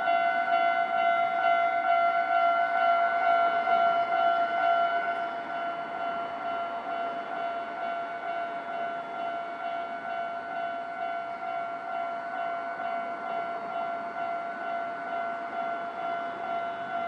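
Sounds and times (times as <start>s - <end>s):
level crossing warning bell: 0.0s - 17.0s.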